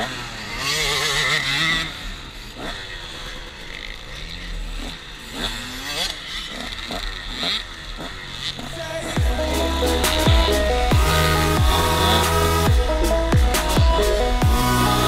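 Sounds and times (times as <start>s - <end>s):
motocross bikes revving: 0.0s - 15.0s
motocross bike idling: 0.1s - 15.0s.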